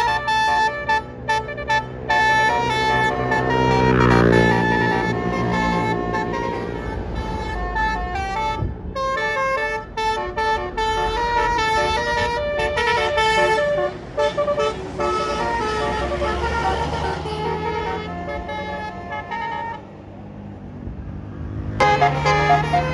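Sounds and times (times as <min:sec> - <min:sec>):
bus horn playing melody: 0:00.0 - 0:19.9, 0:21.8 - 0:22.9
bus engine rumble: 0:00.0 - 0:22.9.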